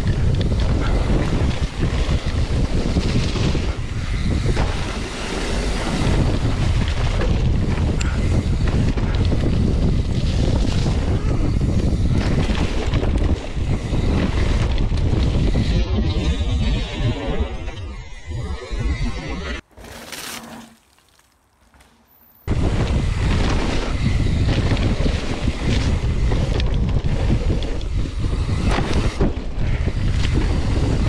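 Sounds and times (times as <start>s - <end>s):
wind buffeting microphone: 0.0s - 17.8s, 22.4s - 31.0s
low rumble of bike ride: 0.0s - 31.0s.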